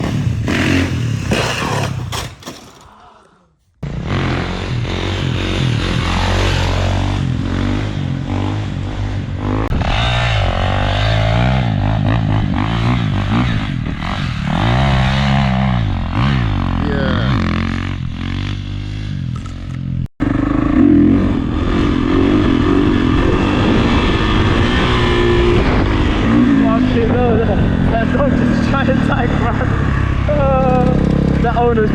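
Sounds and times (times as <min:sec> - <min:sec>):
dirt bike engine revving: 0:00.0 - 0:02.9, 0:03.8 - 0:31.9.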